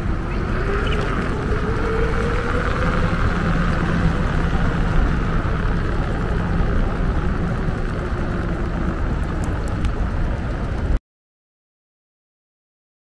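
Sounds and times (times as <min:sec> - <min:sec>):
faint low motor hum: 0:00.0 - 0:11.0
skateboard wheels rolling: 0:00.0 - 0:11.0
wind rush: 0:00.0 - 0:11.0.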